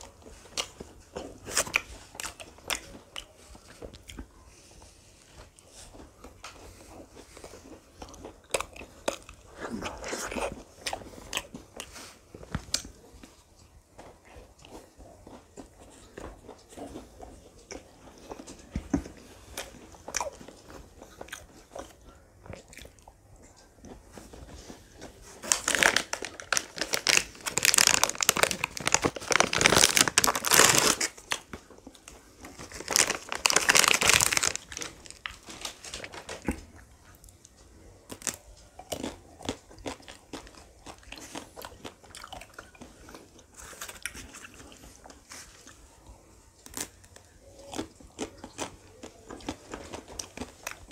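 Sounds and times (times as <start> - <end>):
biting and chewing ice cream: 0.0 - 50.9.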